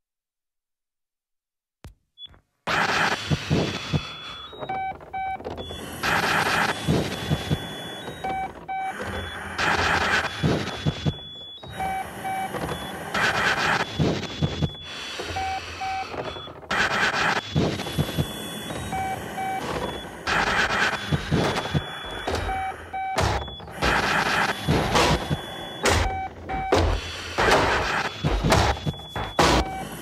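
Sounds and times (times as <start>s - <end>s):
bursts of electronic noise: 2.2s - 30.0s
short electronic beeping tones: 3.0s - 30.0s.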